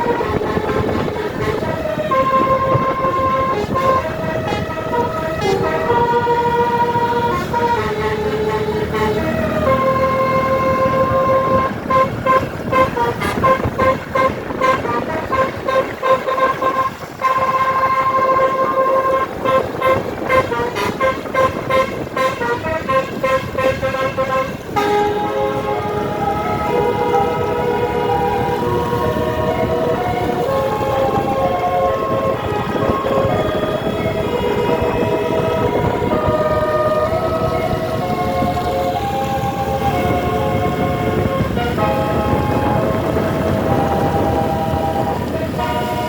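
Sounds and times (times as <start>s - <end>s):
multi-tone bus horn playing a tune: 0.0s - 46.0s.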